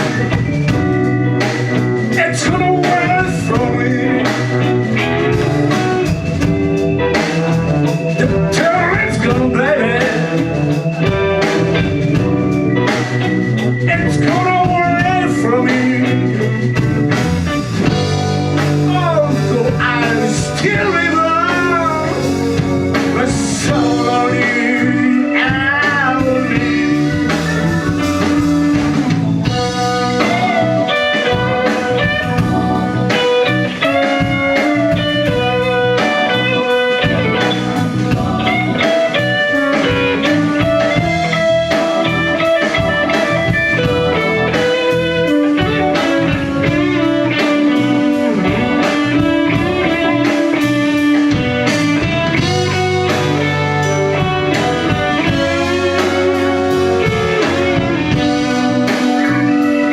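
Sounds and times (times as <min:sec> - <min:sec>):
blues band playing: 0:00.0 - 0:59.9
electric guitar bent notes: 0:00.0 - 0:59.9.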